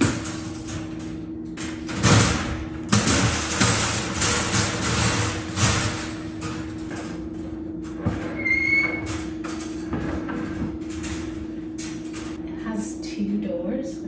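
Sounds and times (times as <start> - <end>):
wire dog crate rattling: 0.0 - 12.4.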